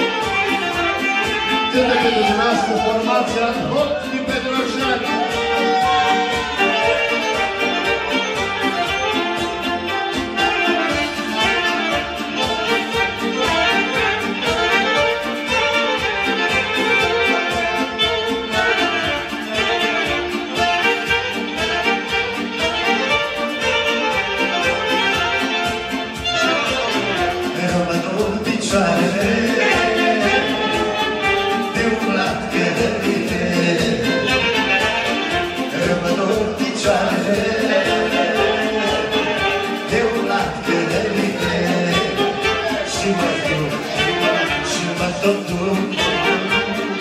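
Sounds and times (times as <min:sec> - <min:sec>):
band playing folk dance music: 0:00.0 - 0:47.0.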